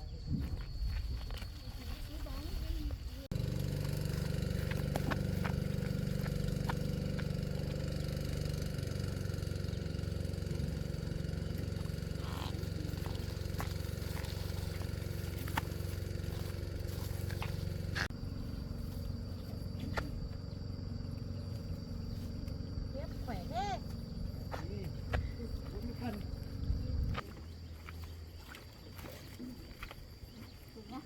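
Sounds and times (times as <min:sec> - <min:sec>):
high insect tone: 0:00.0 - 0:31.0
boat engine running: 0:03.0 - 0:28.0.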